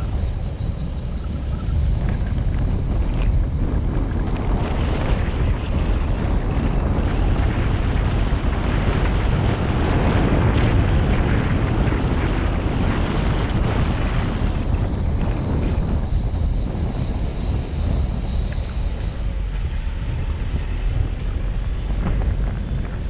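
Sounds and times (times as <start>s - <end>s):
tyres and engine rumbling: 0.0s - 23.0s
wind noise on microphone: 0.0s - 23.0s.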